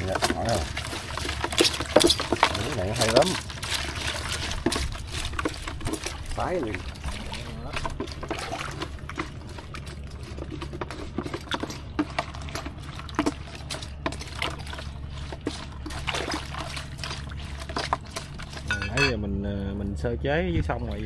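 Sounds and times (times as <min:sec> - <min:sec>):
water pouring and splashing: 0:00.0 - 0:19.2
steady low hum: 0:00.0 - 0:21.0.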